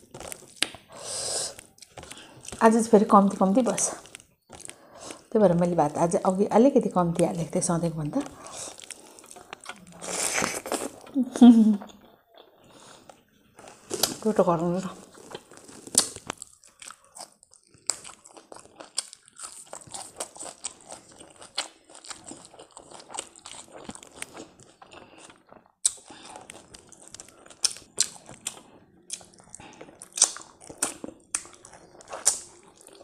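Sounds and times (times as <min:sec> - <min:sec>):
person chewing food: 0:00.0 - 0:02.8, 0:03.4 - 0:05.3, 0:08.1 - 0:14.2, 0:14.9 - 0:33.0.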